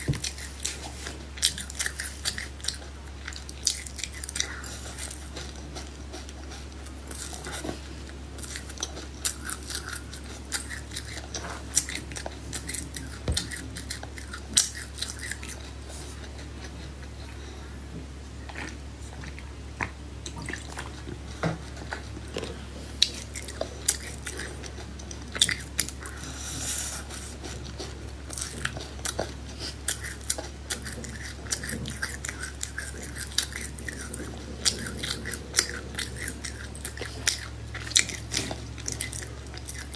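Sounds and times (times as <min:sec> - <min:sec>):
chewing and crunching food: 0:00.0 - 0:39.9
steady low hum: 0:00.0 - 0:39.9.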